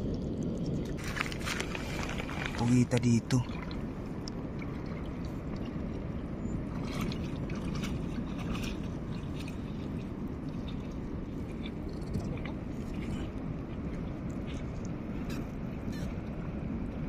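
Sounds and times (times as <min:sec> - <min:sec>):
seawater sloshing around rocks: 0:00.8 - 0:16.3.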